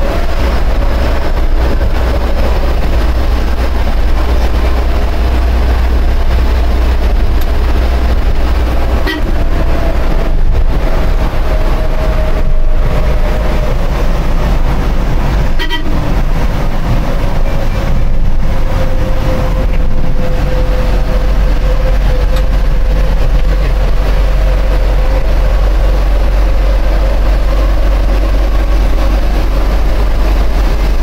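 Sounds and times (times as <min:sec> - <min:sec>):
van engine and road noise: 0:00.0 - 0:31.0.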